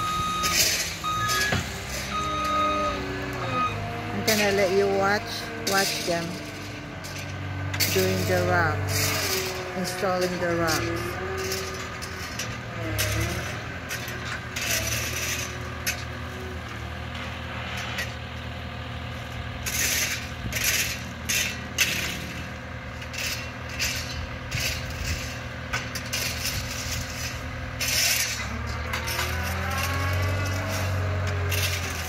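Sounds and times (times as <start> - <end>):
loader engine humming: 0.0 - 32.0
shovels scraping gravel: 0.0 - 32.0.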